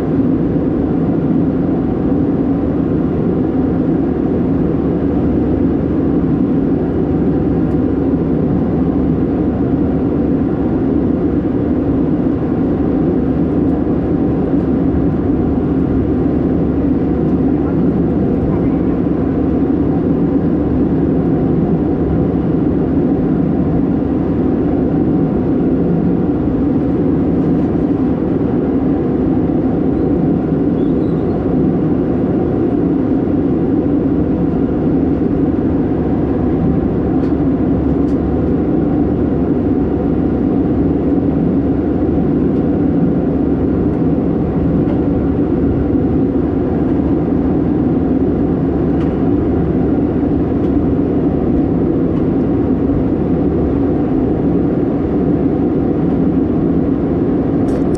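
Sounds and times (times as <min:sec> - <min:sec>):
airplane cabin drone: 0:00.0 - 0:57.9.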